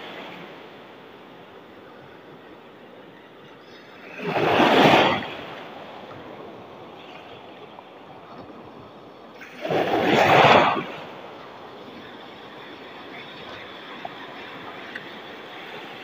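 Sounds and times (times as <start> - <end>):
rough sea wash: 0.0 - 16.0
waves breaking: 0.0 - 16.0.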